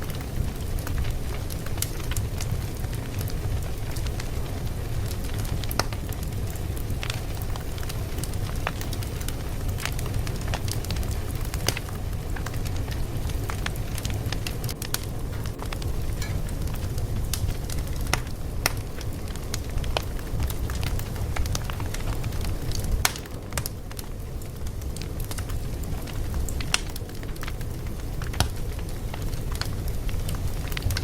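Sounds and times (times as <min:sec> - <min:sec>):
fire pops and snaps: 0:00.0 - 0:31.0
wood fire crackling: 0:00.0 - 0:31.0.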